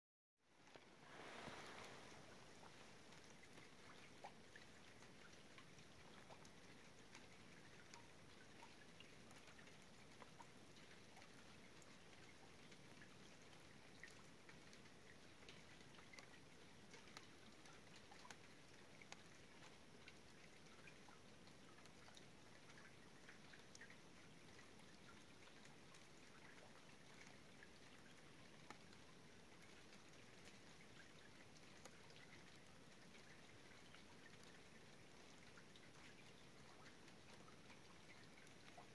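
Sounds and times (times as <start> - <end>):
soft steady hiss: 0.4 - 38.9
water drops dripping: 1.5 - 38.9.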